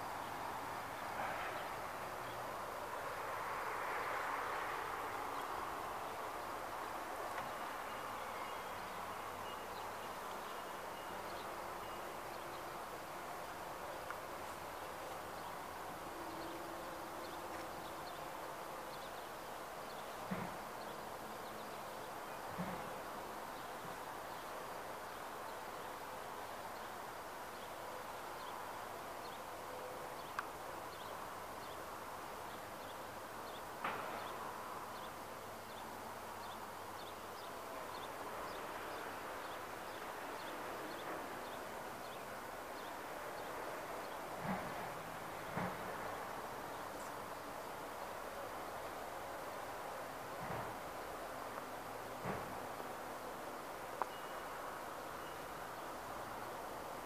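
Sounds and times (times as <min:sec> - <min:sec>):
open-air background hiss: 0:00.0 - 0:57.0.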